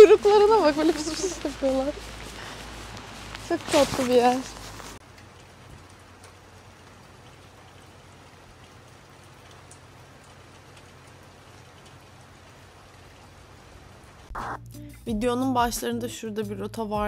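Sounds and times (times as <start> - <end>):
light rain hiss: 0.0 - 14.3
raindrops ticking: 0.0 - 14.3.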